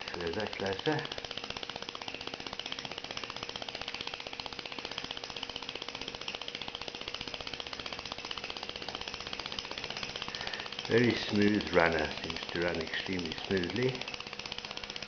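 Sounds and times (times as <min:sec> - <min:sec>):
steam engine running: 0:00.0 - 0:15.0.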